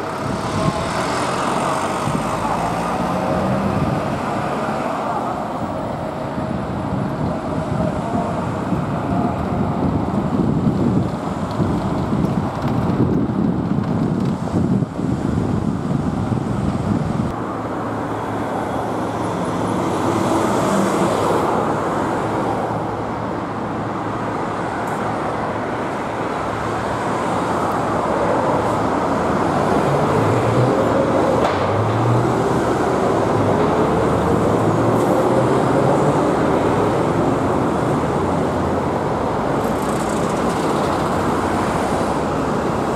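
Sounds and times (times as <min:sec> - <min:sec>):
road traffic hum: 0:00.0 - 0:42.9.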